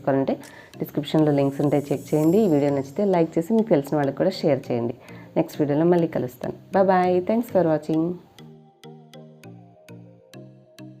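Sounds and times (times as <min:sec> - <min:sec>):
light electronic tune: 0:00.0 - 0:11.0.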